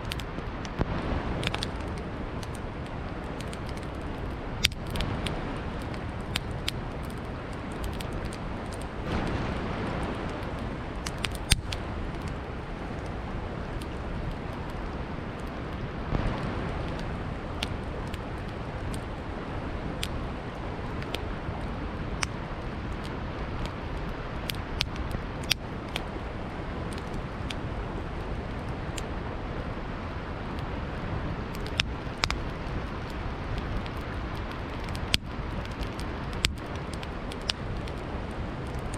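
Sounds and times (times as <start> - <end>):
campfire crackling and popping: 0.0 - 38.9
river rushing: 0.0 - 38.9.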